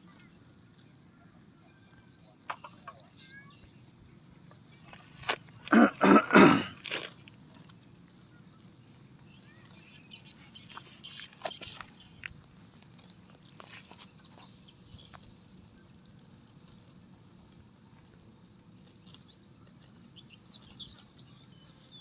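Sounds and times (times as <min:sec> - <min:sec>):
cattle tearing and chewing grass: 0:00.0 - 0:22.0.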